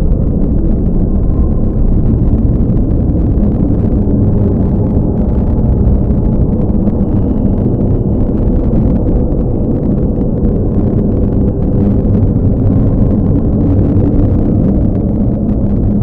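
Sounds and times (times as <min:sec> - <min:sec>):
deep rumble: 0:00.0 - 0:16.0
faint low drone: 0:00.0 - 0:16.0.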